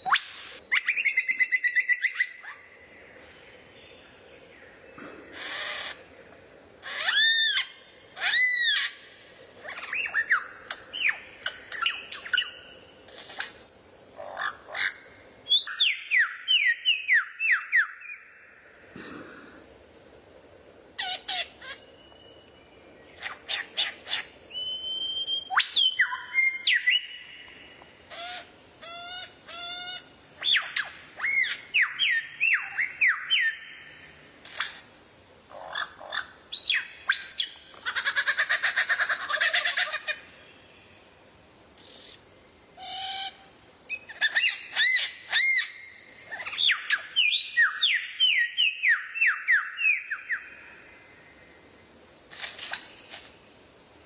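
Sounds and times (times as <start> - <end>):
songbird singing: 0.0 - 19.7, 20.6 - 54.0.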